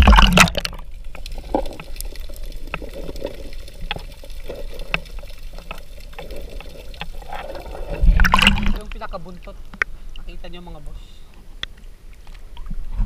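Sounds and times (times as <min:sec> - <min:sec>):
muffled underwater wash: 0:00.0 - 0:13.0.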